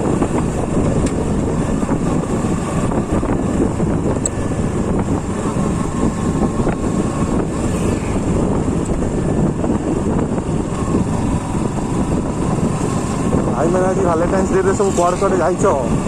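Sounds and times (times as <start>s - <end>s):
motorcycle riding at speed: 0.0s - 16.0s
wind buffeting microphone: 0.0s - 16.0s.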